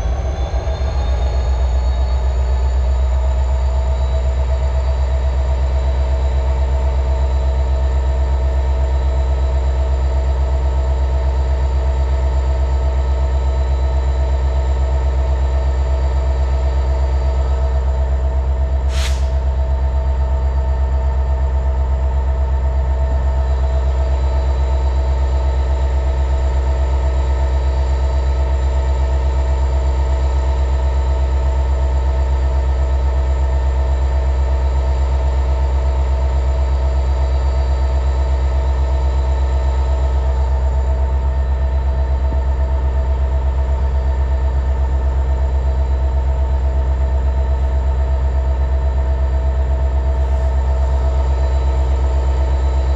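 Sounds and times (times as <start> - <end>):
diesel locomotive engines droning: 0.0 - 52.9.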